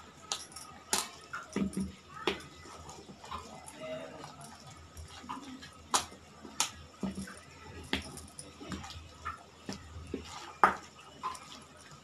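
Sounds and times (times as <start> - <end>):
glass bangles clinking: 0.0 - 12.0
hand squishing wet mixture: 0.0 - 12.0.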